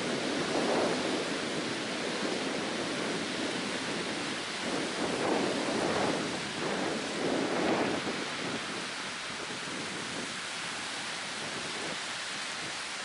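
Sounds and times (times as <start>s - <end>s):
small waves breaking on beach: 0.0s - 13.0s
wind: 0.0s - 13.0s.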